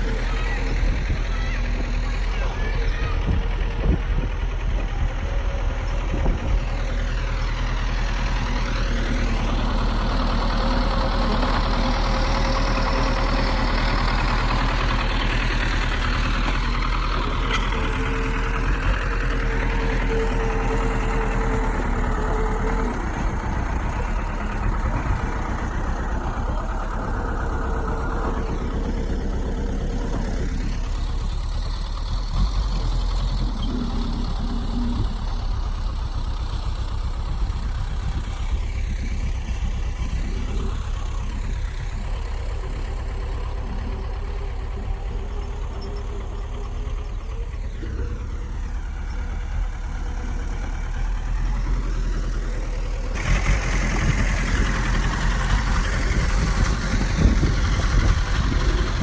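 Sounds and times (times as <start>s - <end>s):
bulldozer diesel engine rumbling: 0.0s - 59.0s.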